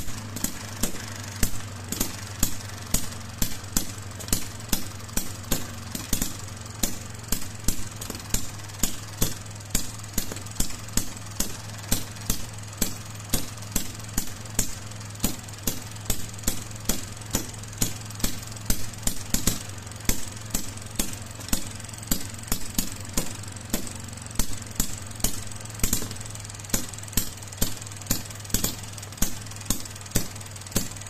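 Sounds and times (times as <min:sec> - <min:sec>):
small two-stroke engine running: 0:00.0 - 0:31.0.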